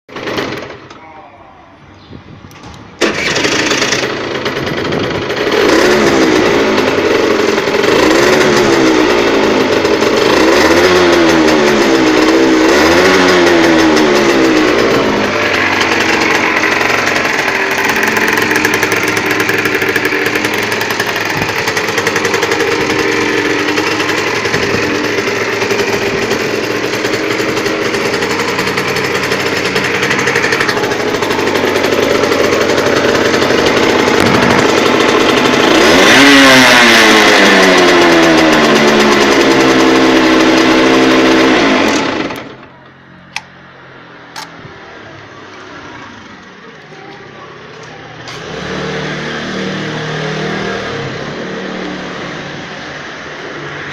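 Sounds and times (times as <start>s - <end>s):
two-stroke motorcycle engine revving: 0.1s - 1.0s, 3.0s - 53.9s.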